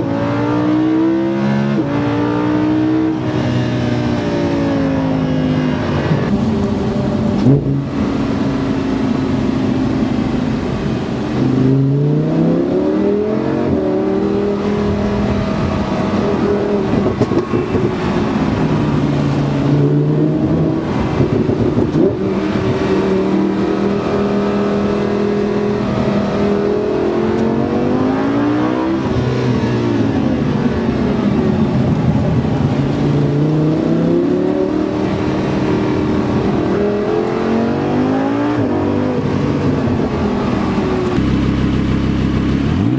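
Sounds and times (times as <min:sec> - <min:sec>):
car engine revving and shifting gears: 0:00.0 - 0:31.6, 0:32.7 - 0:42.9.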